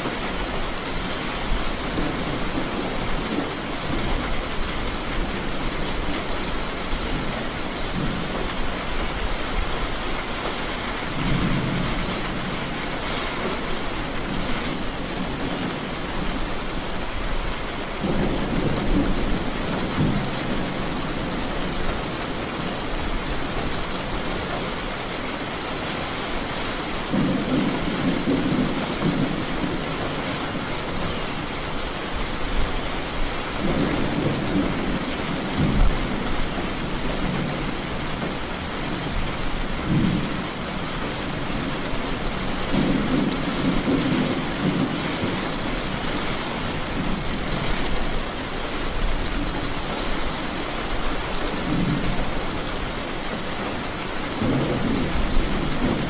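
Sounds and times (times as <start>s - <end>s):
thunder rumbling: 0.0s - 25.1s, 27.0s - 50.1s, 50.9s - 56.0s
steady rain: 0.0s - 56.0s.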